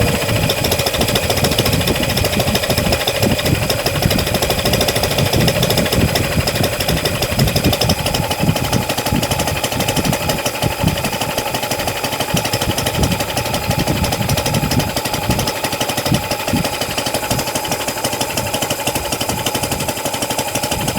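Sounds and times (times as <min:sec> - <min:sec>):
small engine chattering: 0:00.0 - 0:20.9.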